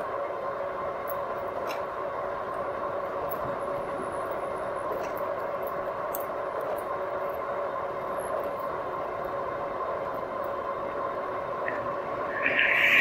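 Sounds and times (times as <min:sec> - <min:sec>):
electric bike motor and tyres droning: 0:00.0 - 0:13.0.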